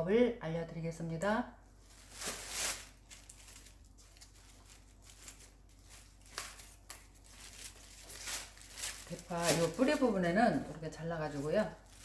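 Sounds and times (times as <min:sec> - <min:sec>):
plastic bag crinkling: 0:01.9 - 0:12.0.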